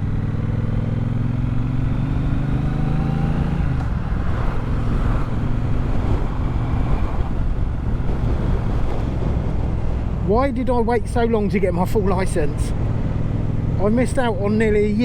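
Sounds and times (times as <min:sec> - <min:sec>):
motorcycle engine: 0:00.0 - 0:10.3, 0:11.9 - 0:14.6
wind rush over microphone: 0:02.0 - 0:14.9.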